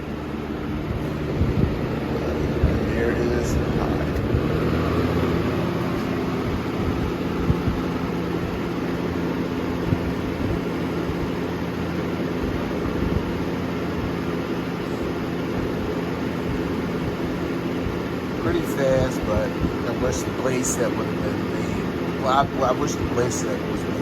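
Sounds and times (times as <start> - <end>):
box fan running: 0.0 - 24.0
faint knocks of fan blades: 0.0 - 24.0.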